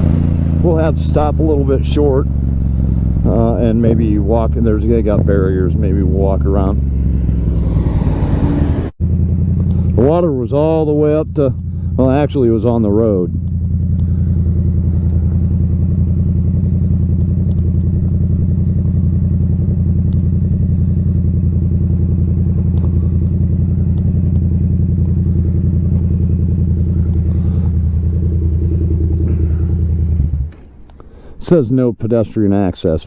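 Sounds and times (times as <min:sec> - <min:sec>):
motorcycle engine idling: 0:00.0 - 0:31.5.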